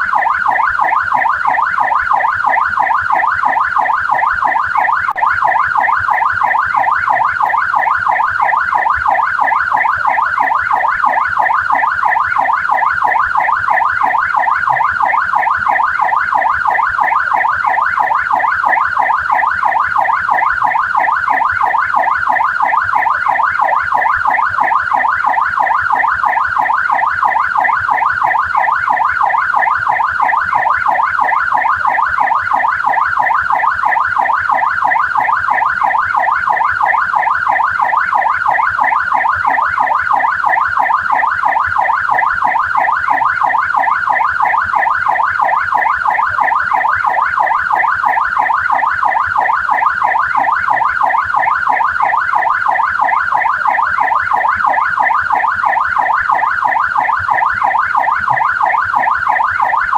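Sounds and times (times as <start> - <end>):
police siren yelp: 0.0 - 59.9.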